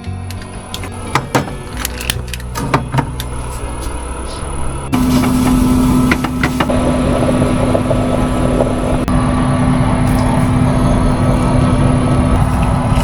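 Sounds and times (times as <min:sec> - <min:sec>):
road noise rumble: 0:00.0 - 0:13.0
vehicle engine drone: 0:00.0 - 0:13.0.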